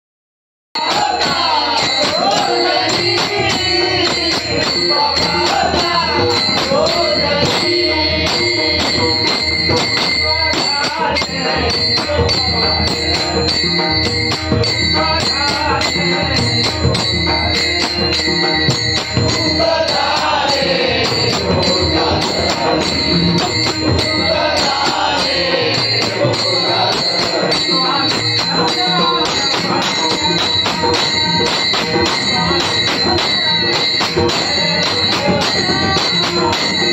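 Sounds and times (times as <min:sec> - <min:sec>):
man singing lead: 0:00.8 - 0:17.9, 0:19.2 - 0:36.9
barrel drum: 0:00.8 - 0:36.9
hand cymbals clashing: 0:00.8 - 0:36.9
men singing along: 0:00.8 - 0:36.9.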